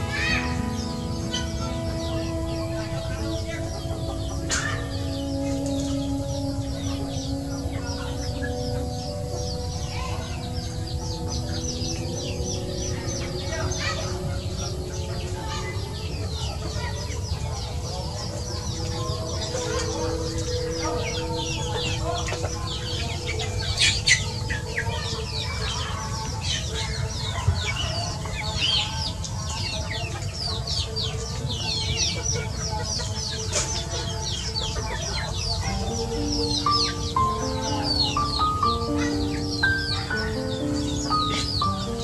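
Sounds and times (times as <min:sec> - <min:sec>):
chickens clucking: 0:00.0 - 0:42.0
chicks peeping: 0:00.0 - 0:42.0.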